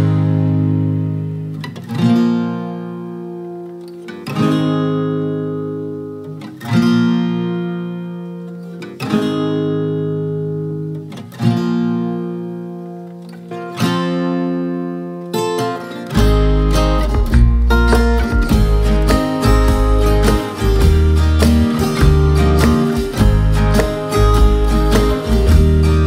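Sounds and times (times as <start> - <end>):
strummed guitar chords: 0.0 - 26.0.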